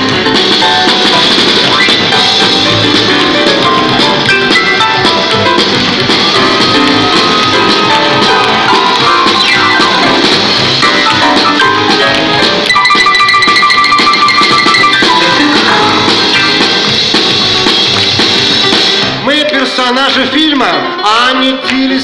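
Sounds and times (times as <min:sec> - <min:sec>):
instrumental band music: 0:00.0 - 0:22.0.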